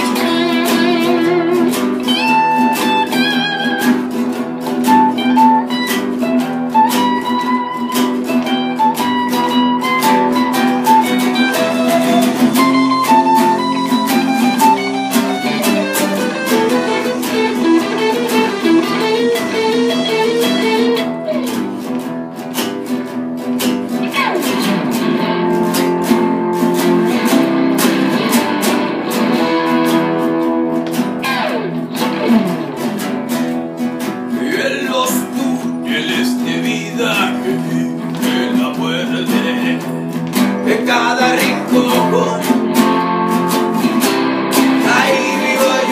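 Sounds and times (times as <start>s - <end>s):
picked electric guitar melody: 0.0s - 45.9s
strummed acoustic guitar chords: 0.0s - 45.9s.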